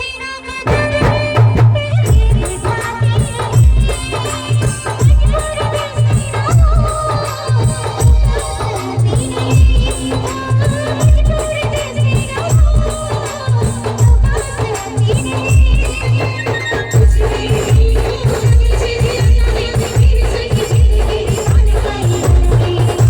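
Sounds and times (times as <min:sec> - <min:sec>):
heavy bass drum beat: 0:00.7 - 0:23.0
fast shaken percussion: 0:01.8 - 0:23.0.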